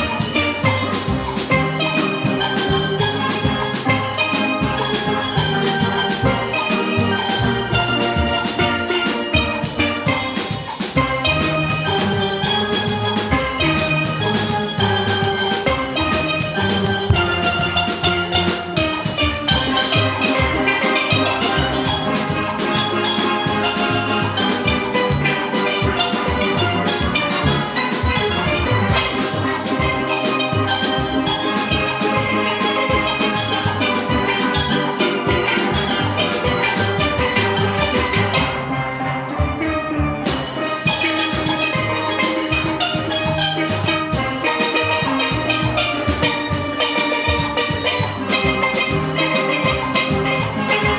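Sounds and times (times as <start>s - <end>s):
drum kit rhythm: 0.0s - 50.9s
steelpans playing bright notes: 0.0s - 50.9s.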